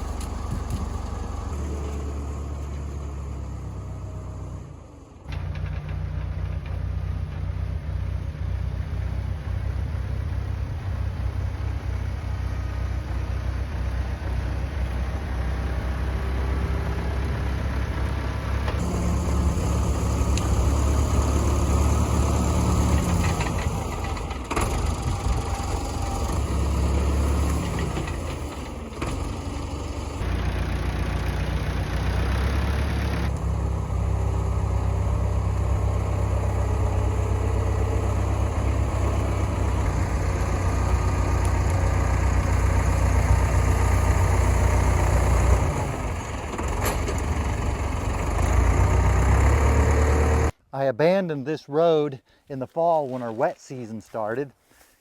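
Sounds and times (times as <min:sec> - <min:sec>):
tractor engine running: 0:00.0 - 0:50.6.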